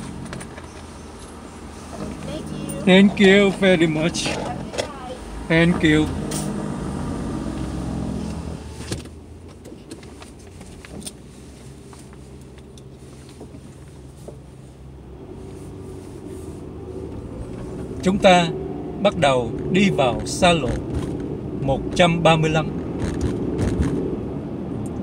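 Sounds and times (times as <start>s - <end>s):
car engine accelerating: 0.0s - 9.2s, 12.0s - 25.0s
low hum in car cabin: 0.0s - 22.8s.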